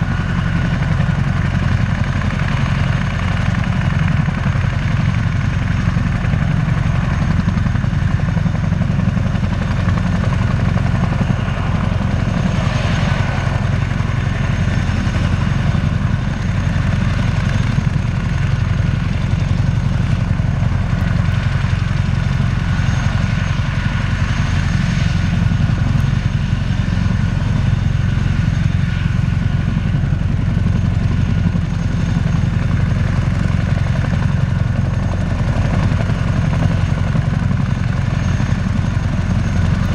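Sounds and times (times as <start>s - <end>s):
helicopter rotors and engines: 0.0s - 39.9s.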